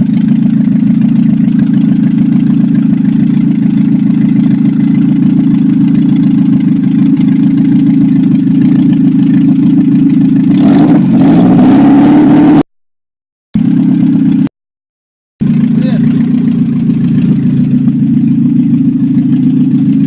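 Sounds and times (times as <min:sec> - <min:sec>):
car engine idling and revving: 0:00.0 - 0:12.6, 0:13.6 - 0:14.5, 0:15.4 - 0:20.0.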